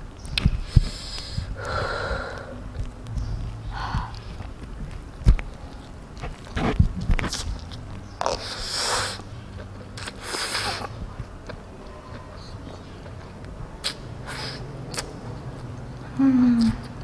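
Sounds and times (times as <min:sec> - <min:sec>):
mouth clicks and chewing: 0:00.1 - 0:17.0.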